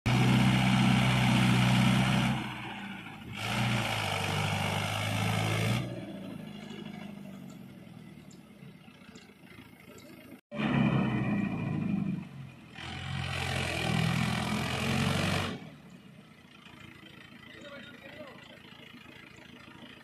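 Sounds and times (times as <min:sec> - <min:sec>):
tractor diesel engine revving: 0:00.1 - 0:20.0.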